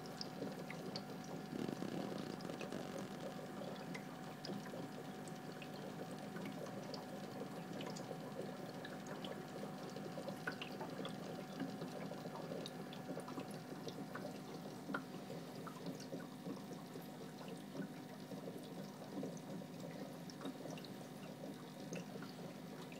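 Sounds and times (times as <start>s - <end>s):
aquarium filter water bubbling: 0.0s - 22.9s
small pops and drips: 0.0s - 22.9s.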